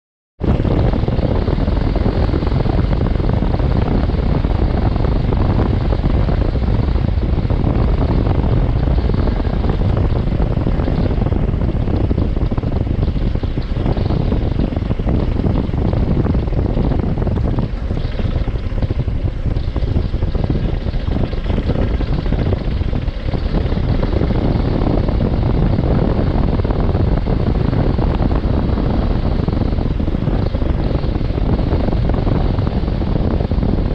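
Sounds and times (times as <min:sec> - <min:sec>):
motorcycle engine: 0:00.4 - 0:33.9
wind buffeting on microphone: 0:00.4 - 0:33.9.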